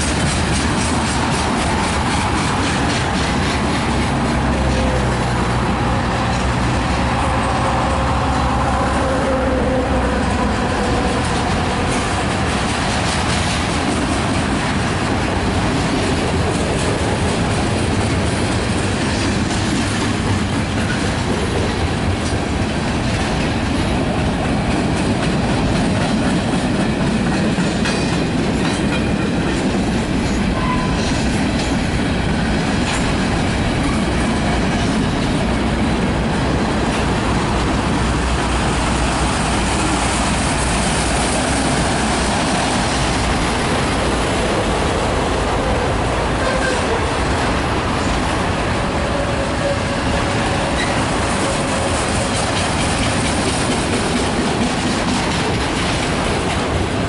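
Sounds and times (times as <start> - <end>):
freight cars rumbling past: 0.0 - 57.0
wheels clacking over rail joints: 0.0 - 57.0.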